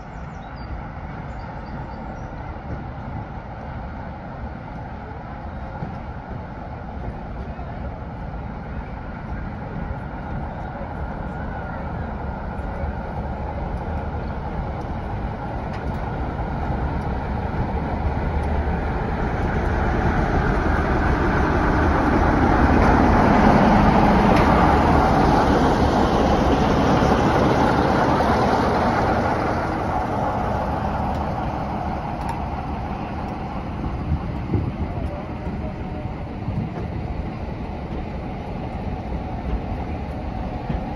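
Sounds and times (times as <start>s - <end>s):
diesel locomotive engine rumble: 0.0s - 40.9s
train wheels on rails: 0.0s - 40.9s.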